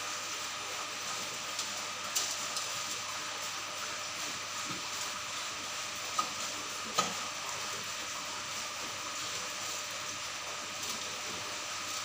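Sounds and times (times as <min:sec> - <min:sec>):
aquarium water hissing: 0:00.0 - 0:12.0.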